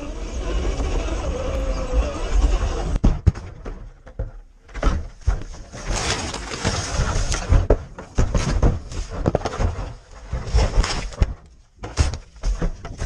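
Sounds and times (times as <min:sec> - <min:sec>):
toy truck knocking and scraping on rock: 0:00.0 - 0:13.0.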